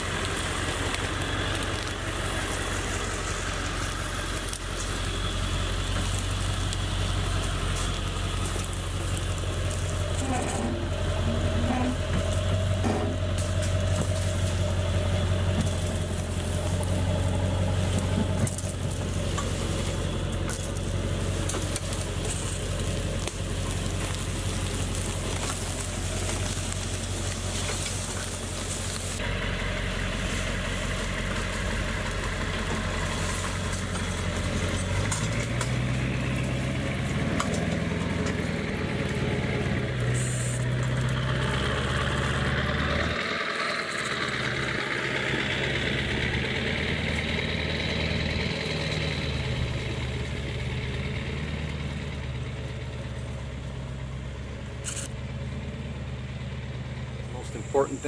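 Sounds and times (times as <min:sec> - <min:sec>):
higher engine note: 0:00.0 - 0:58.0
pickup truck engine running: 0:00.0 - 0:58.0.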